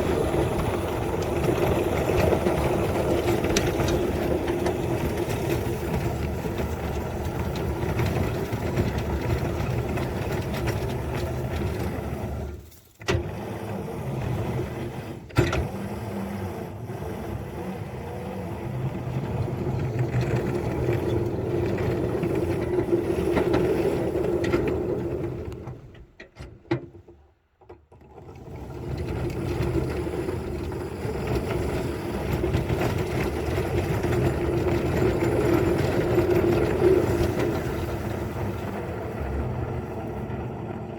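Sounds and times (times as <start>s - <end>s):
engine running: 0.0s - 25.6s, 28.3s - 40.9s.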